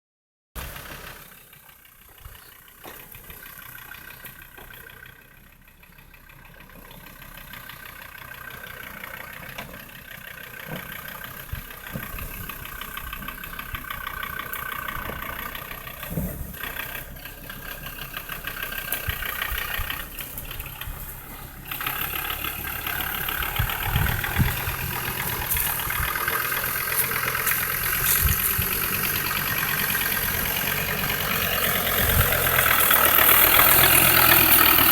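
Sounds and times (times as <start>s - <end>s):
car engine running: 0.6s - 34.9s.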